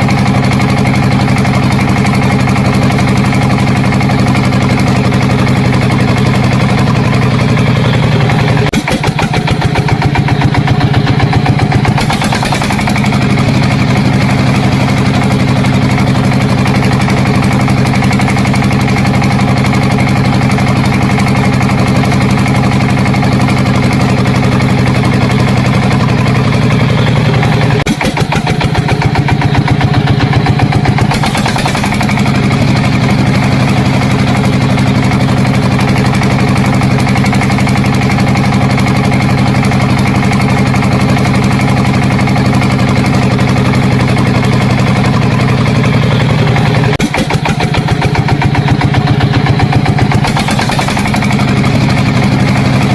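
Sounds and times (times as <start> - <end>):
small tractor engine running: 0.0 - 52.9.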